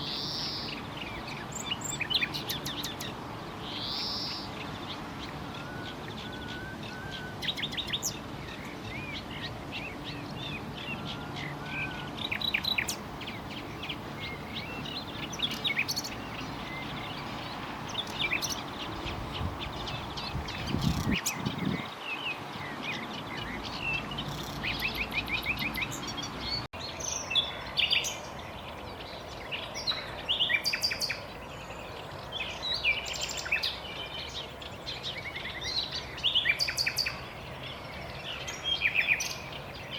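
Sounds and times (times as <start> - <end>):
nightingale singing: 0.0 - 39.9
steady background hiss: 0.0 - 39.9.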